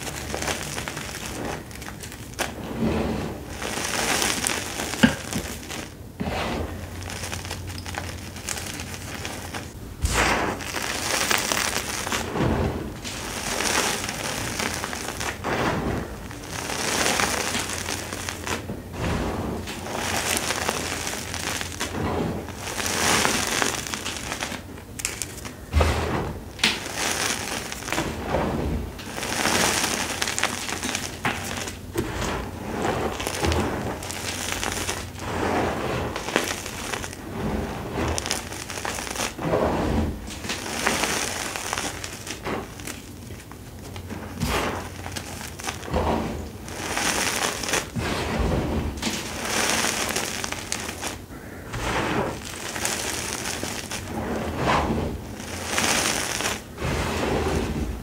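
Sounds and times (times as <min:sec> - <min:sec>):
chalk lumps cracking: 0:00.0 - 0:57.8
hands crumbling chalk: 0:00.0 - 0:57.8.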